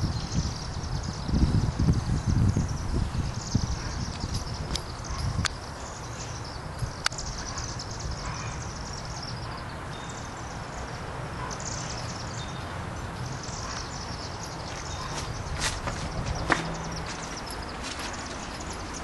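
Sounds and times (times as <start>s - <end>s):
swifts chittering: 2.6s - 19.0s.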